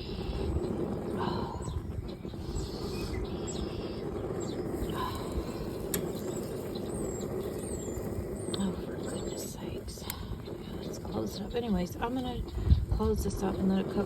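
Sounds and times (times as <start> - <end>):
flock of birds chirping: 0.0 - 14.0
wind rumble on microphone: 0.0 - 14.0.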